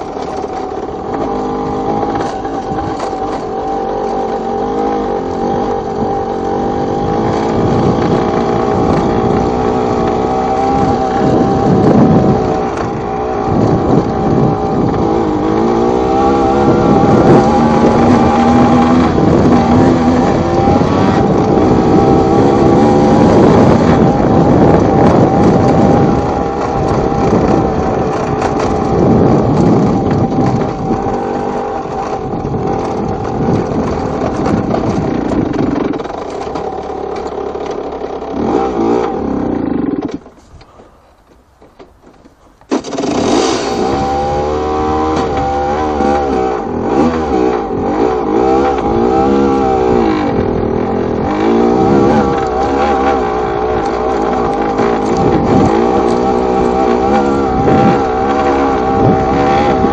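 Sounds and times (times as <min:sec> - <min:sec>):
two-stroke motorbike engine revving: 0:00.0 - 0:40.9, 0:42.6 - 0:59.9.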